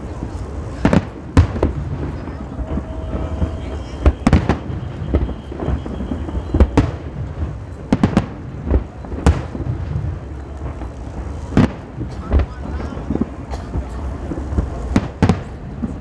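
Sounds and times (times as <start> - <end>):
fireworks bursting: 0.0 - 16.0
low rolling rumble: 0.0 - 16.0.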